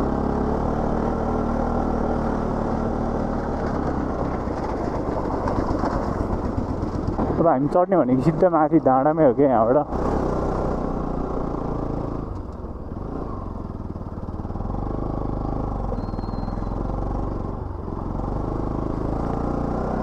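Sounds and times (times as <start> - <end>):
motorcycle engine climbing: 0.0 - 20.0.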